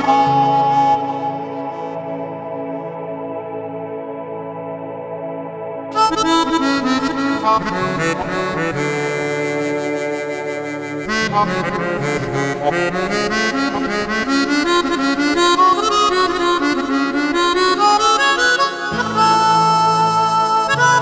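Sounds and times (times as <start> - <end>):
melodica keyboard running melody: 0.0 - 2.0, 5.9 - 21.0.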